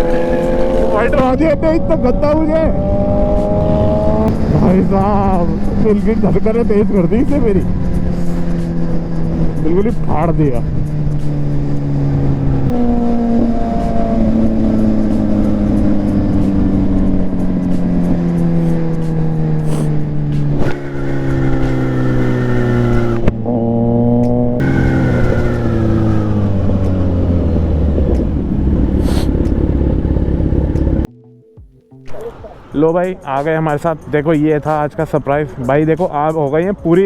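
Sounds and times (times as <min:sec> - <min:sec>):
motorcycle engine downshifting: 0:00.0 - 0:33.5.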